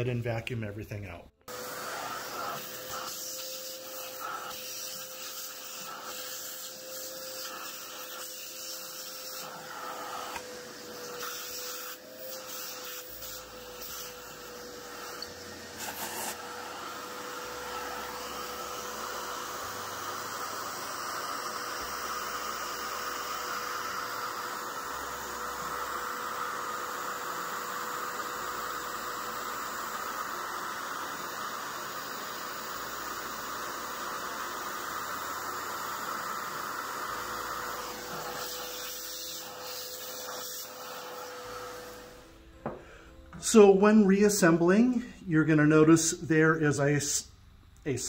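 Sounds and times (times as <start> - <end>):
vacuum cleaner running: 1.5 - 47.3.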